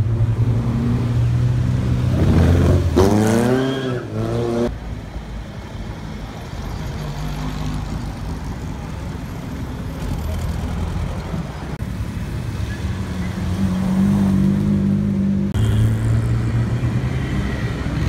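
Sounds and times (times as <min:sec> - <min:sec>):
sports car engines passing: 0:00.0 - 0:18.0.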